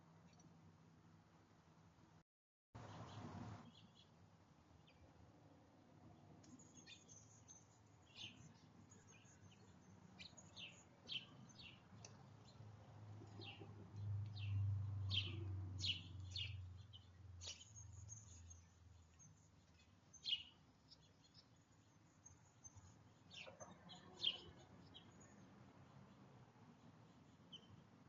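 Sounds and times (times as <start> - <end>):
songbirds chirping: 2.8 - 28.0.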